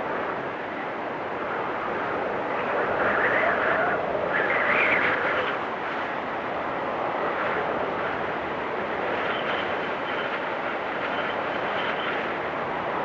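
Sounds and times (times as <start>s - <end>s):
blizzard wind blowing: 0.0s - 13.0s.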